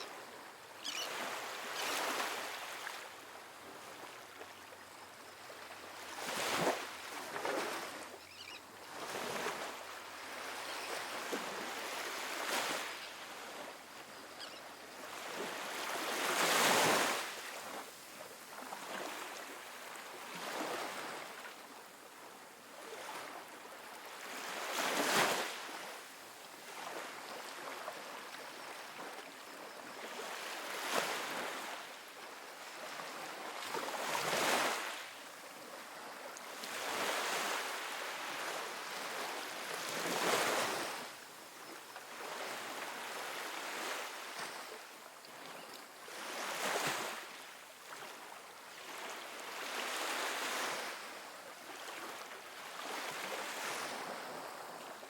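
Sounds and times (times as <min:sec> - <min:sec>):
waves washing up a beach: 0:00.0 - 0:55.0.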